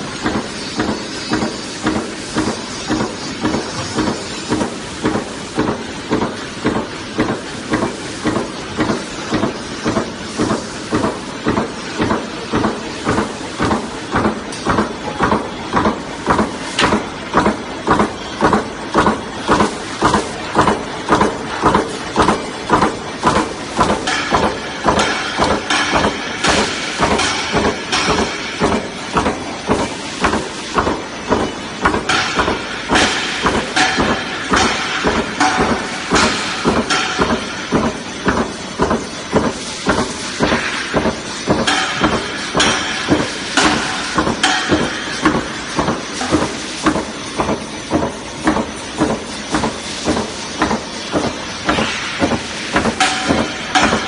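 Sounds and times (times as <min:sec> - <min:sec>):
steady machine noise: 0:00.0 - 0:54.0
punching press stamping: 0:00.2 - 0:54.0.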